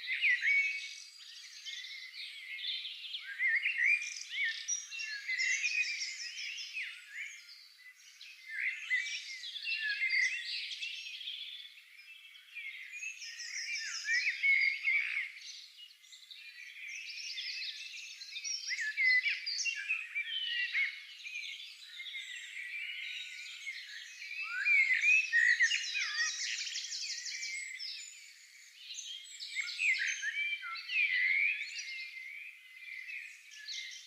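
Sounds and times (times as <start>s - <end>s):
songbirds chirping and trilling: 0.0s - 34.0s.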